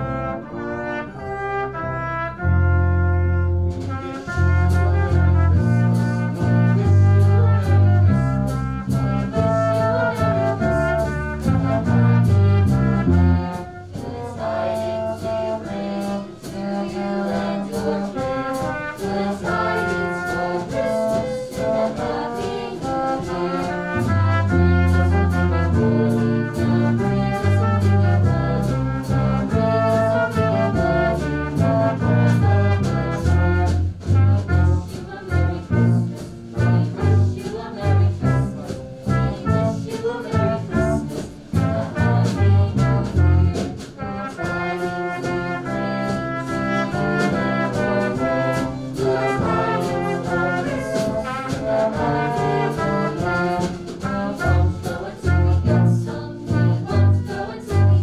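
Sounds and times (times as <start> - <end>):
brass ensemble playing: 0.0 - 58.0.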